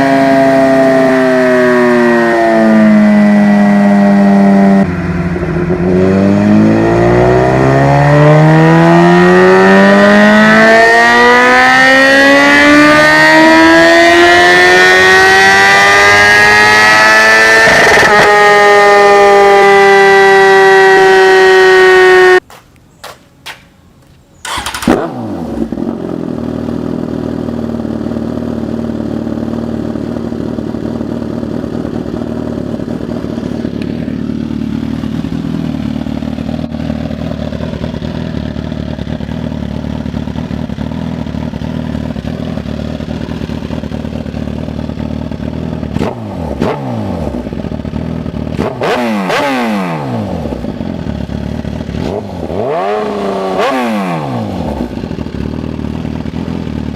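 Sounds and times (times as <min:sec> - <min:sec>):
motorcycle engine idling and revving: 0:00.0 - 0:56.9.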